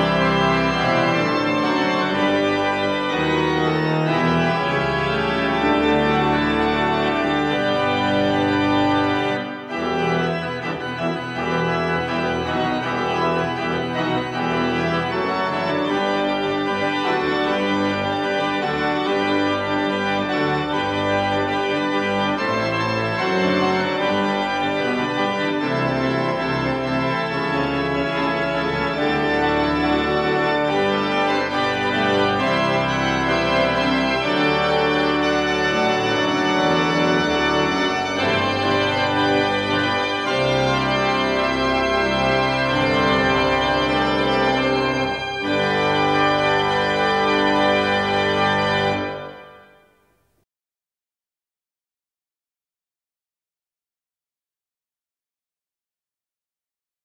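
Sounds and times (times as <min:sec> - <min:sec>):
organ playing held chords: 0:00.0 - 0:49.9.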